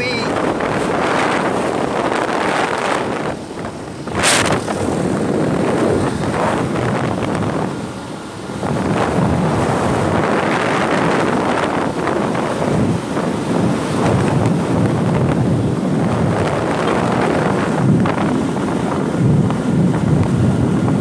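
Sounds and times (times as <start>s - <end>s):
road noise: 0.0s - 21.0s
wind buffeting microphone: 0.0s - 21.0s.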